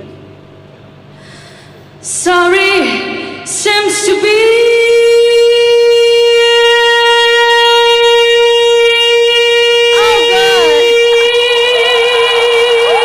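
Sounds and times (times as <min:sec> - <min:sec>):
woman singing: 0:02.1 - 0:13.0.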